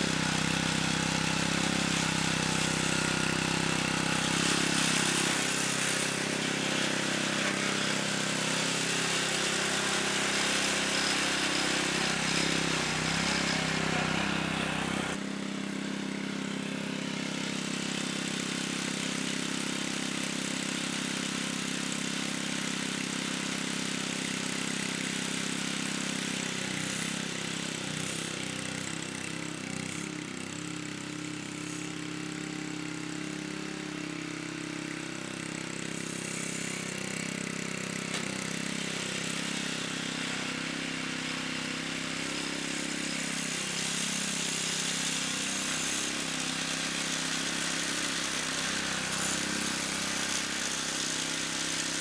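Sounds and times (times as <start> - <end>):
lawnmower engine running: 0.0 - 52.0.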